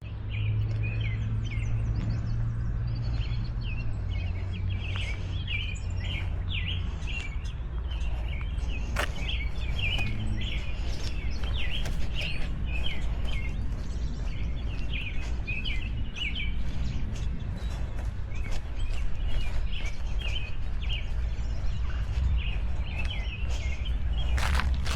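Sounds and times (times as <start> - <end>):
birds chirping and singing: 0.0 - 24.9
low outdoor rumble: 0.0 - 24.9.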